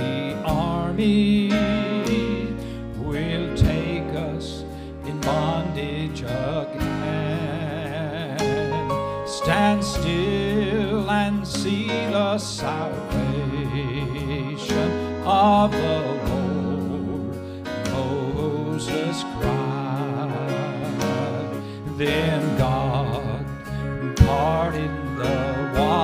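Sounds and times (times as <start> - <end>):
instrumental accompaniment with bass: 0.0 - 26.0
man singing gospel with vibrato: 0.0 - 26.0.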